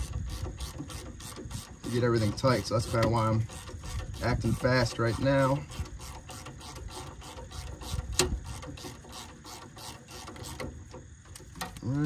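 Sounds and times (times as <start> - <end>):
hand ratchet clicking: 0.0 - 11.9.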